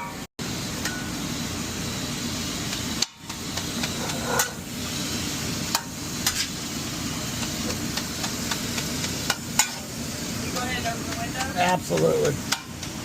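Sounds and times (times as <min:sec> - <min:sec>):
meat sizzling on griddle: 0:00.4 - 0:13.0.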